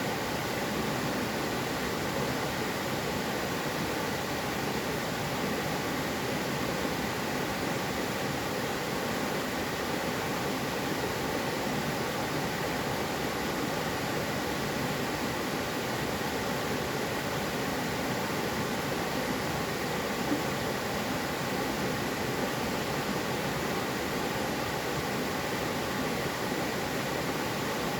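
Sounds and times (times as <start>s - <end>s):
stream flowing: 0.0s - 27.9s.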